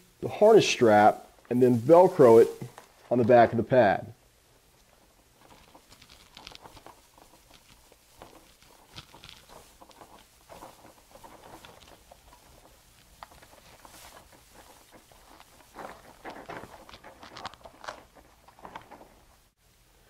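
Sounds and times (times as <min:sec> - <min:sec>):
rustling of nylon webbing: 0:00.3 - 0:03.4, 0:04.5 - 0:19.6.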